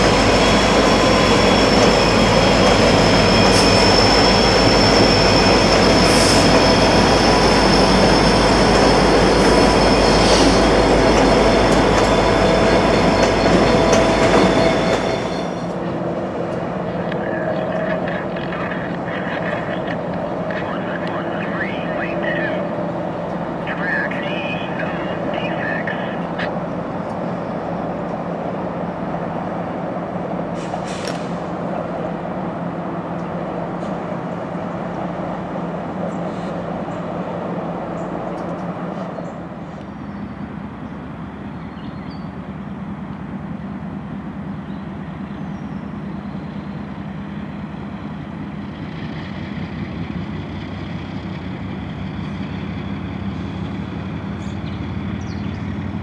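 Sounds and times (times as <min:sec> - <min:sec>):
diesel locomotive engine drone: 0:00.0 - 0:56.0
distant locomotives hauling train: 0:00.0 - 0:56.0.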